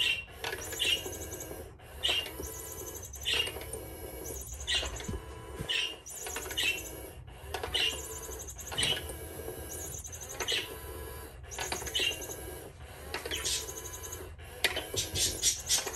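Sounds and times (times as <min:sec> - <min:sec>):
toy motor whirring: 0:00.0 - 0:15.9.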